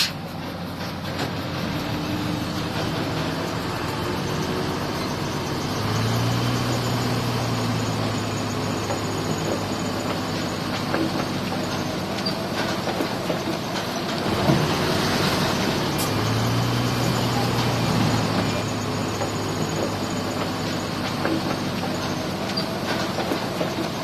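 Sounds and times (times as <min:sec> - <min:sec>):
diesel machinery engine drone: 0:00.0 - 0:24.0.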